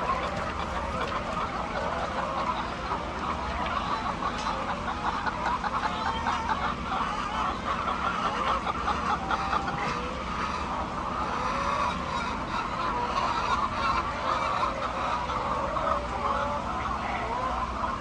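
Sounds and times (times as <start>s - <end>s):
hens clucking: 0.0s - 18.0s
steady low hum: 0.0s - 18.0s.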